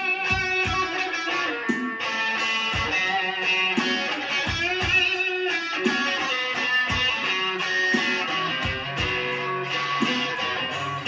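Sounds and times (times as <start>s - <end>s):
electric guitar blues lead: 0.0s - 11.0s
low thumping beat: 0.0s - 11.0s.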